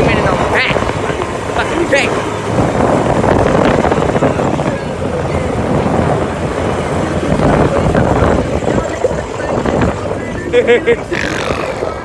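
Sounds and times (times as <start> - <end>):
vehicle running steadily: 0.0 - 12.0
wind buffeting microphone: 0.0 - 12.0.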